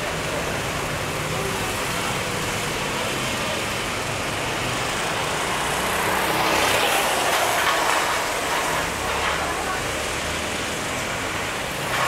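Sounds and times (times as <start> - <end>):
karts engines running: 0.0 - 12.0
tyre hiss on wet track: 0.1 - 12.0.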